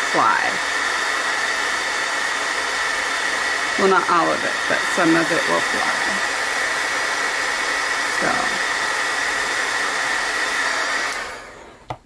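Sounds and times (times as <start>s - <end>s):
heat gun blowing: 0.0s - 12.0s.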